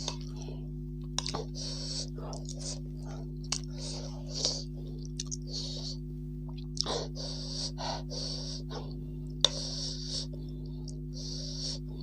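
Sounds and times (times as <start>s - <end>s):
chewing: 0.0s - 12.0s
steady low hum: 0.0s - 12.0s
breathing: 1.4s - 6.0s, 6.9s - 12.0s.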